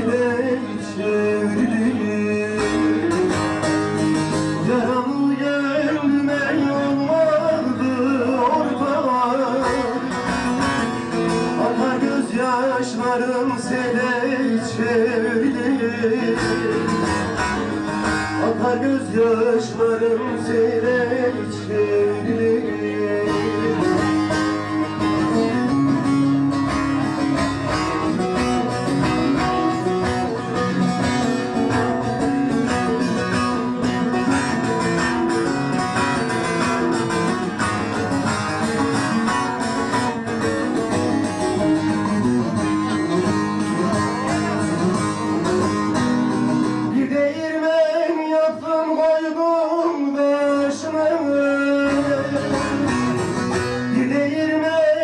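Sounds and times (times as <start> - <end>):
man singing: 0.0 - 55.0
plucked string instrument: 0.0 - 55.0.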